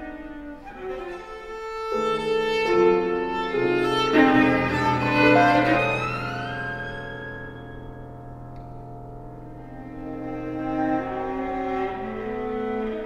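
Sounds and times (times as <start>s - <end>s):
bowed viola melody: 0.0s - 13.0s
piano accompaniment: 0.0s - 13.0s.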